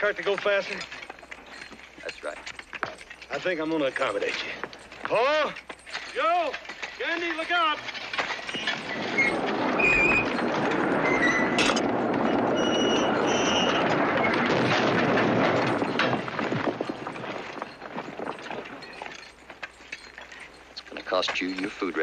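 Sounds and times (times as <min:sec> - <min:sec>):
cart wheels rumbling on rails: 0:00.0 - 0:22.0
wheel squeals: 0:00.0 - 0:22.0.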